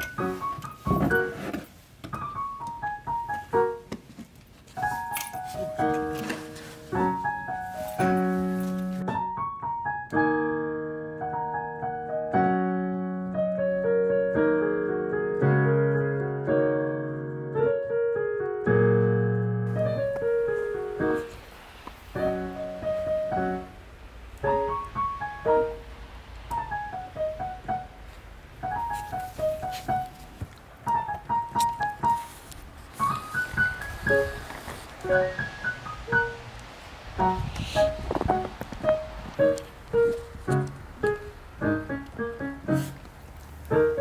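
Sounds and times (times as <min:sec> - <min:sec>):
solo piano music: 0:00.0 - 0:44.0.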